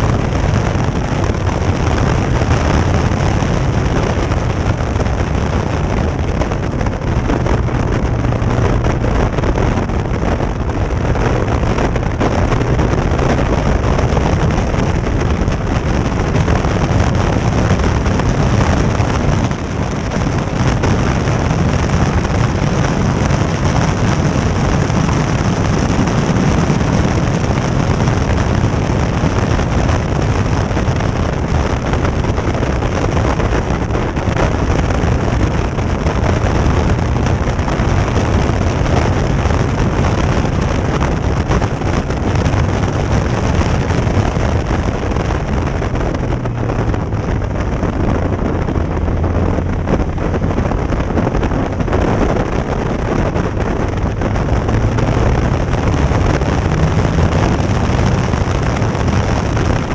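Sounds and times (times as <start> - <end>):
car engine running hard: 0.0 - 59.9
wind buffeting on microphone: 0.0 - 59.9.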